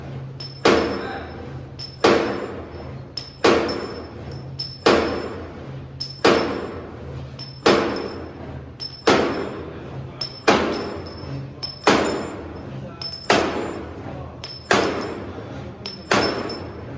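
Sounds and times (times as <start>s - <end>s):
metallic bang with ringing: 2.0s - 7.0s, 7.6s - 14.0s, 14.6s - 16.9s.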